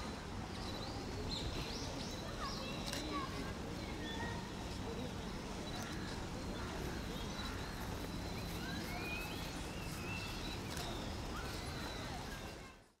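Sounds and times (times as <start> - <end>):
small songbirds chirping: 0.2 - 3.2, 3.9 - 12.8.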